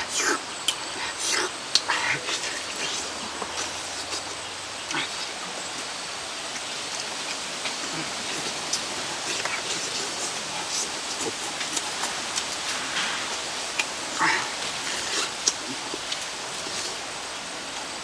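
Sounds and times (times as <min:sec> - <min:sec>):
person chewing: 0:00.0 - 0:17.9
background hiss: 0:00.0 - 0:18.0.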